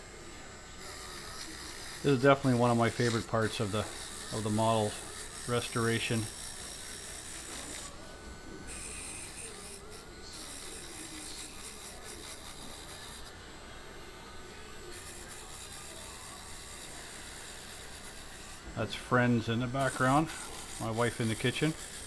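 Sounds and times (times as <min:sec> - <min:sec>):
rotary tool buffing metal: 0:00.0 - 0:22.0.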